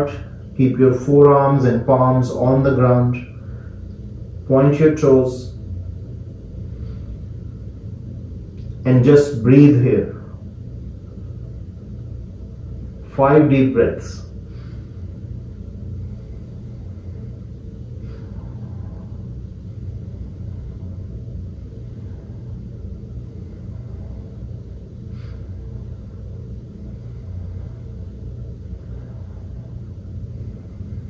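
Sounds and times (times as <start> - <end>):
low background rumble: 0.0 - 31.0
faint breaths: 0.1 - 9.4, 10.1 - 31.0.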